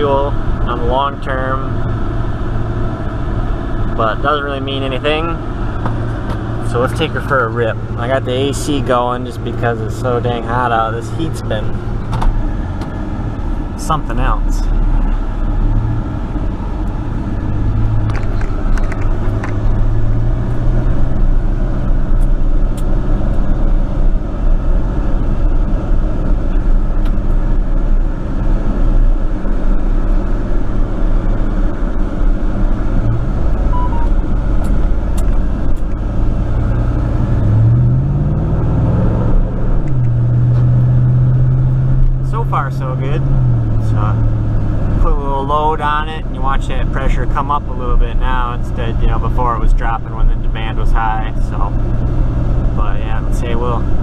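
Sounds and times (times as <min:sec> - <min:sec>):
pickup engine and road drone: 0:00.0 - 0:54.0.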